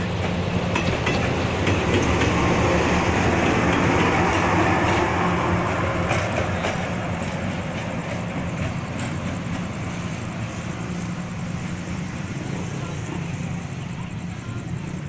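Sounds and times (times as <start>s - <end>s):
train rumbling on rails: 0.0s - 15.0s
wheels clicking: 0.0s - 15.0s.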